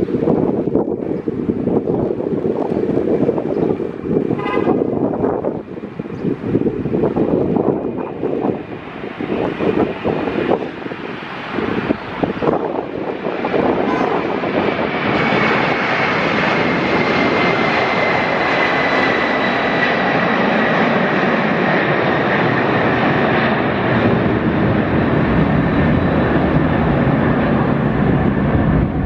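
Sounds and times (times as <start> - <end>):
jet engines roaring with whine: 0.0 - 29.0.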